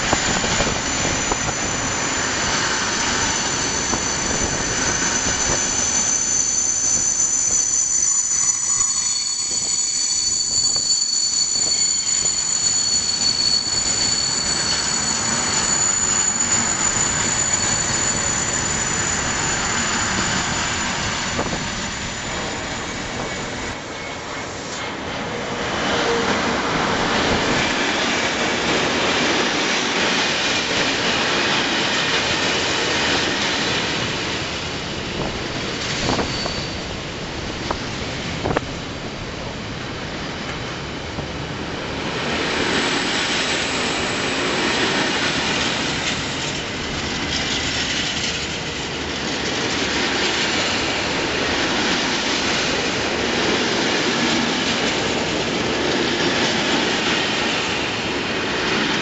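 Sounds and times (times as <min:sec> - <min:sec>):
freight train wagons rumbling by: 0:00.0 - 0:59.0.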